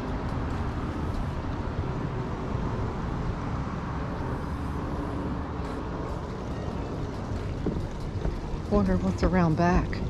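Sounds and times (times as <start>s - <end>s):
low rumble of cars: 0.0s - 10.0s.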